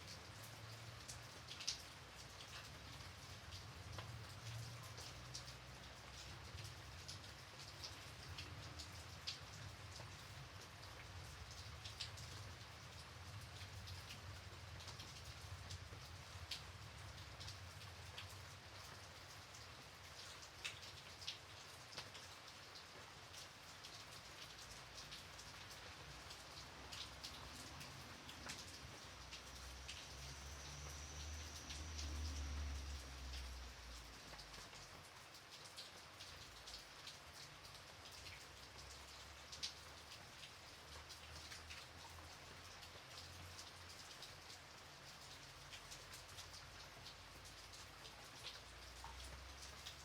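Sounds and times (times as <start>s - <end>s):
gentle rain patter: 0.0s - 50.0s
raindrops ticking on a surface: 0.0s - 50.0s.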